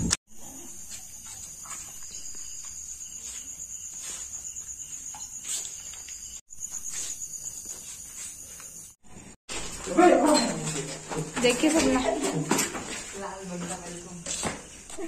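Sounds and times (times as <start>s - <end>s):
night insects chirring: 0.3s - 15.0s.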